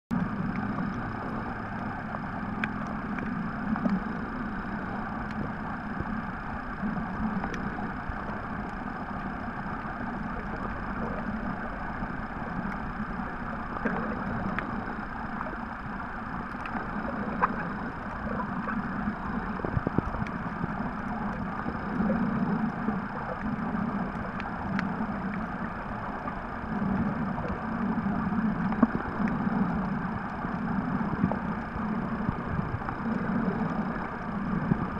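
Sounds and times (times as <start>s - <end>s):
low underwater rumble: 0.1s - 34.9s
muffled underwater hum and hiss: 0.1s - 34.9s
faint clicks: 0.4s - 34.9s.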